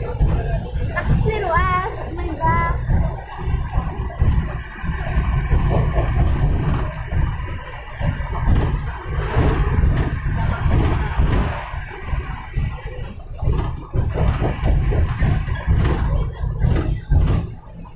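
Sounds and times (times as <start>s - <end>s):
vehicle road and wind noise: 0.0s - 17.9s.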